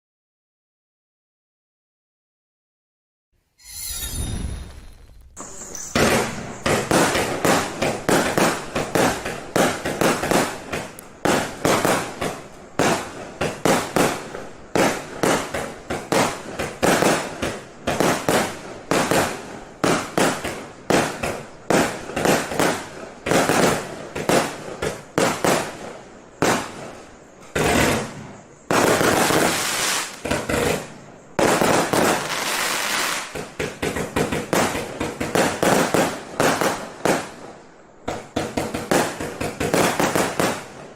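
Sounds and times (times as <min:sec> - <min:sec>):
firework crackling hiss: 0:03.6 - 0:40.9
firework sharp bangs: 0:04.0 - 0:40.9.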